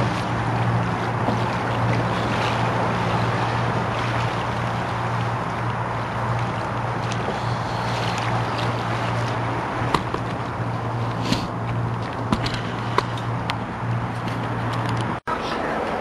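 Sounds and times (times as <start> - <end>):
low engine-like hum: 0.0 - 16.0.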